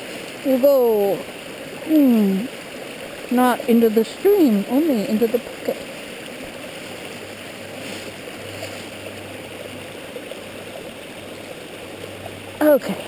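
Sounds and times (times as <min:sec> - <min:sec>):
stream running water: 0:00.0 - 0:13.0.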